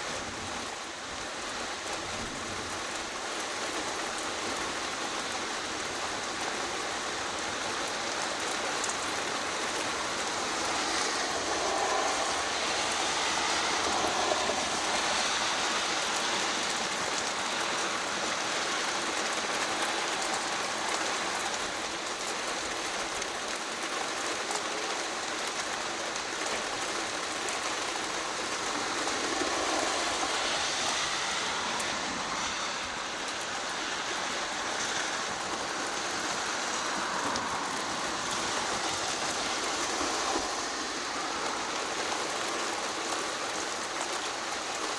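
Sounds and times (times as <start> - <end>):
steady rain patter: 0.0 - 44.9.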